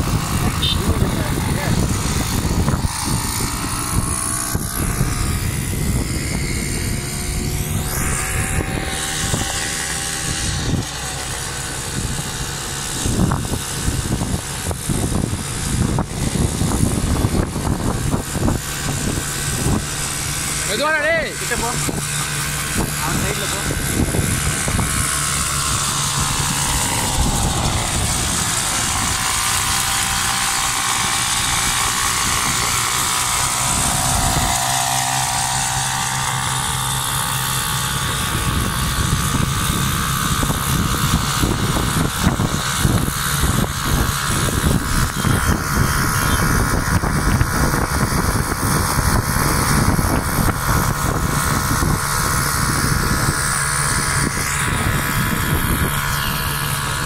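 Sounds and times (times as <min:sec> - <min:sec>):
motorcycle engines running: 0:00.0 - 0:57.0
wind noise: 0:00.0 - 0:57.0.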